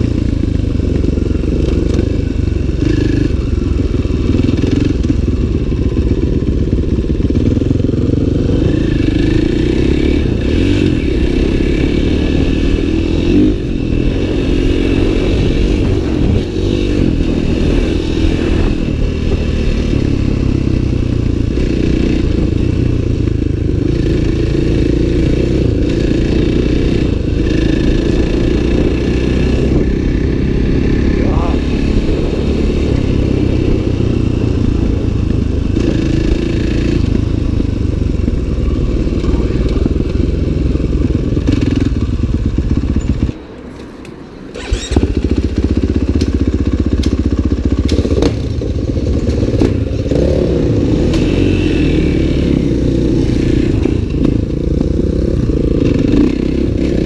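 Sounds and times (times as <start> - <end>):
dirt bike engine running: 0.0 - 43.5, 44.5 - 57.0.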